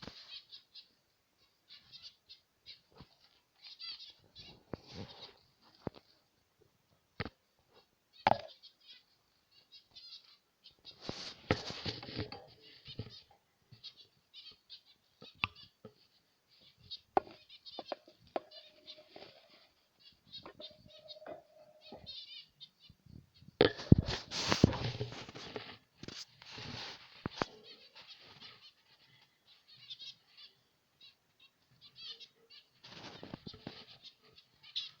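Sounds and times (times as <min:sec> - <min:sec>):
finches beeping calls: 0:00.0 - 0:06.1, 0:07.7 - 0:35.0.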